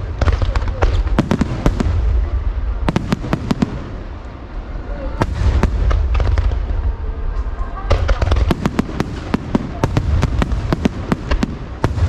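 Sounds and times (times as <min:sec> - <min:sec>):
fireworks bursting: 0:00.0 - 0:12.0
steady low rumble: 0:00.0 - 0:12.0.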